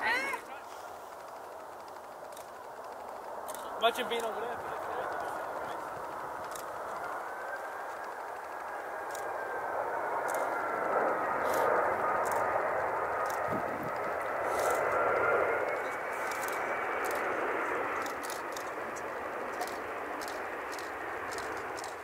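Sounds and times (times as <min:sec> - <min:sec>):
jet airliner landing: 0:00.0 - 0:22.0.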